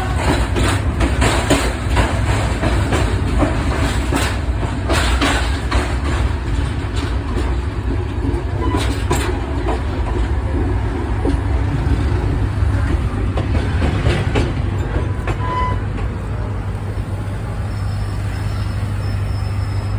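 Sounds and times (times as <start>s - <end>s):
train rumbling on rails: 0.0s - 19.9s.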